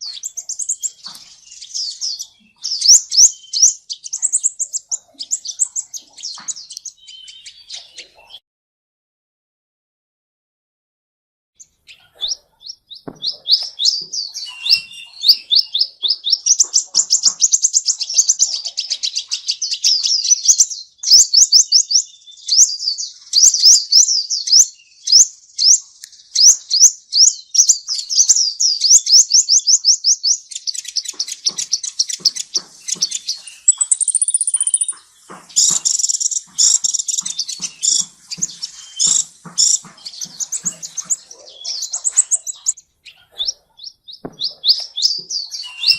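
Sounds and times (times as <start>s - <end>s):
songbird singing: 0.0s - 8.4s, 11.6s - 45.9s.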